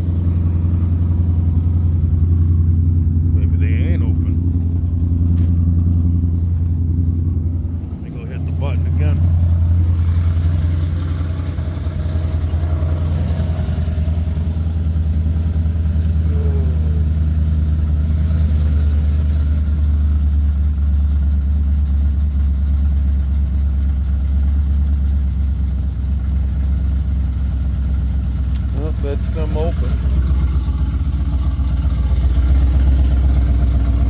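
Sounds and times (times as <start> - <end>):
pickup engine idling loudly: 0.0 - 34.0.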